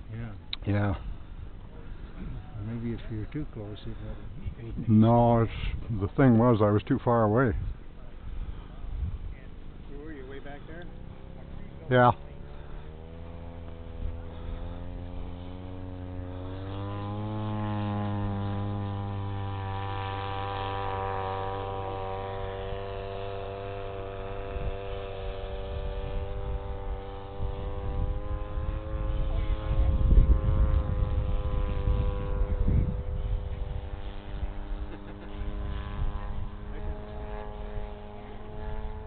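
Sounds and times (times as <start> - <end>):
model plane motor and propeller: 0.0 - 39.0
rough low rumbling: 0.0 - 39.0.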